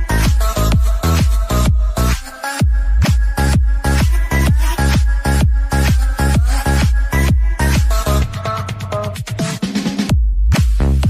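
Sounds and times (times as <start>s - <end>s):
kick drum: 0.0s - 11.0s.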